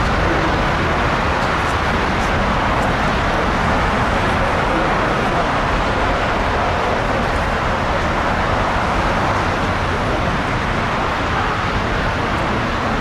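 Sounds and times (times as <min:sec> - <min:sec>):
distant jet engines roaring: 0:00.0 - 0:13.0.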